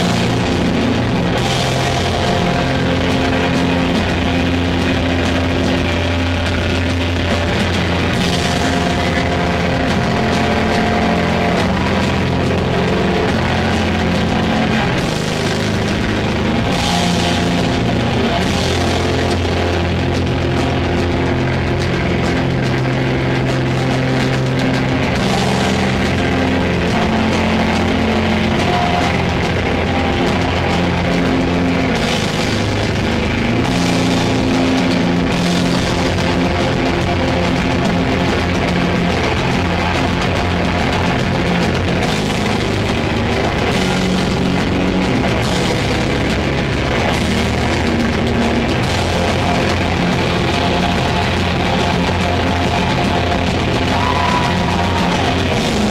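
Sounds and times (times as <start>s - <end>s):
distorted electric guitar: 0.0s - 55.9s
heavy metal band playing: 0.0s - 55.9s
pounding drum kit: 0.0s - 55.9s.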